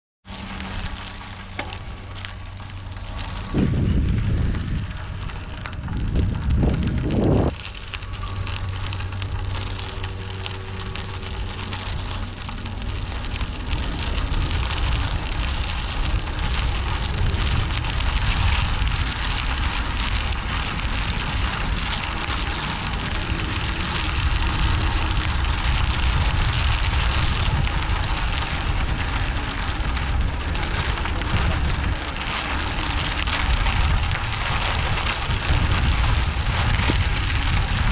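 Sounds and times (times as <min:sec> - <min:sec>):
bicycle tyres crunching gravel: 0:00.2 - 0:37.9
wind buffeting microphone: 0:00.6 - 0:37.9.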